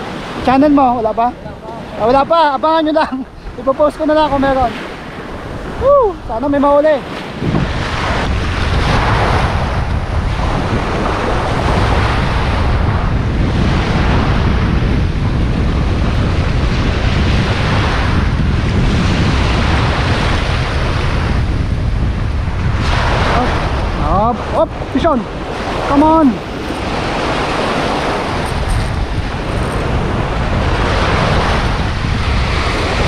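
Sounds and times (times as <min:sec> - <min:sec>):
sea surf breaking: 0:00.0 - 0:33.0
wind buffeting microphone: 0:00.0 - 0:33.0.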